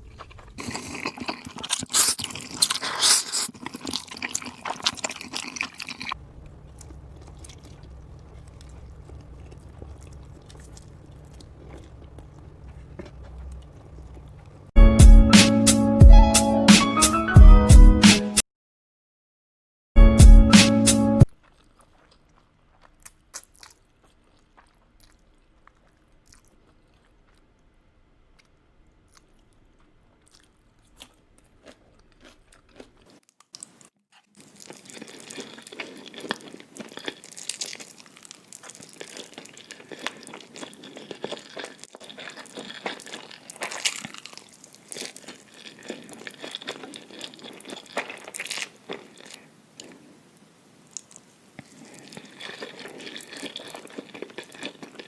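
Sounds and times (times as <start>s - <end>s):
crunchy bites and wet chewing: 0.0s - 14.7s, 21.2s - 55.0s.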